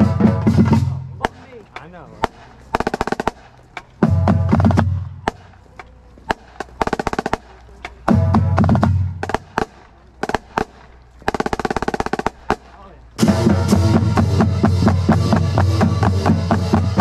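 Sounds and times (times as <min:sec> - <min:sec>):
marching snare drum rolls: 0:00.0 - 0:05.6, 0:06.2 - 0:17.0.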